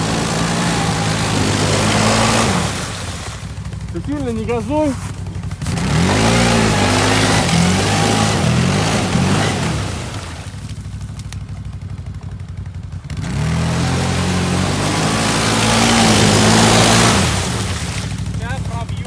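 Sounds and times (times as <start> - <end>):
quad bike engine revving: 0.0 - 19.0
wheels churning through mud: 0.0 - 19.0.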